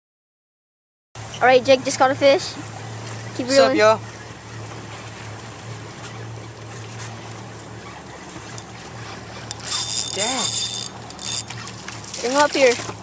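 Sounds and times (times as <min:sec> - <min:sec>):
steady low hum: 0:01.2 - 0:13.0
water washing around boat: 0:01.2 - 0:13.0.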